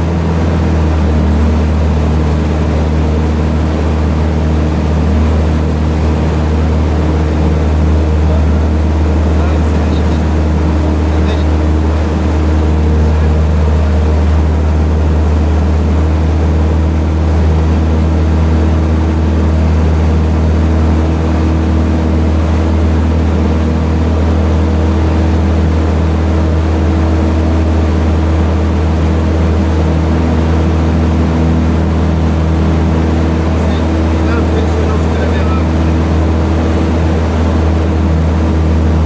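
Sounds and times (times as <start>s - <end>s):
aircraft engine and propeller droning: 0.0s - 39.0s.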